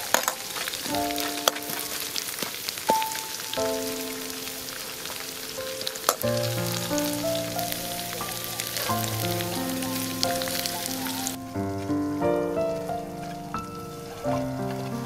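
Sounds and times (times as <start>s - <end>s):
aromatics sizzling in a pan: 0.0s - 15.0s
background music with held notes: 0.0s - 15.0s.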